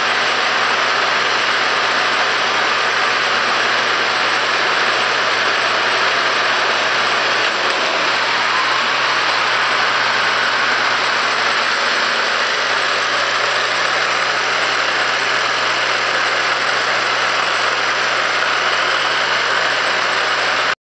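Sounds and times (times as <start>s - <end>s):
electric motor whirring: 0.0s - 20.8s.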